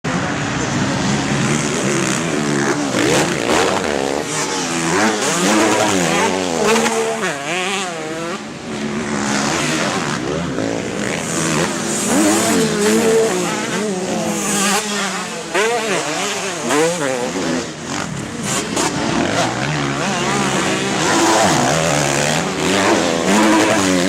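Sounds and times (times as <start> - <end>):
dirt bike engines revving: 0.1 - 24.0.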